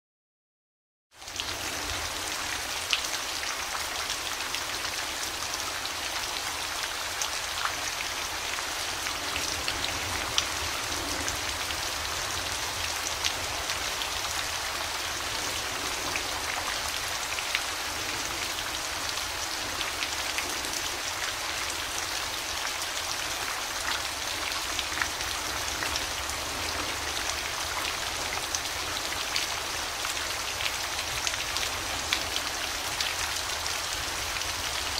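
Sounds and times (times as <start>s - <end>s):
steady falling rain: 1.1s - 34.9s.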